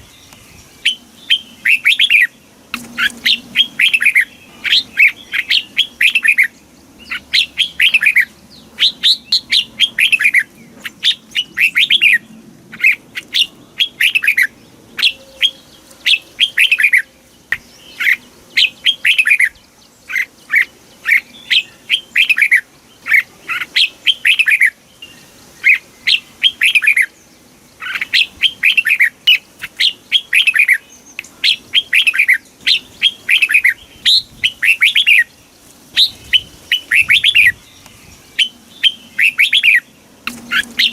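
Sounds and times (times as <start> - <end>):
bird whistling song: 0.0 - 27.2, 27.8 - 35.4, 36.0 - 40.9.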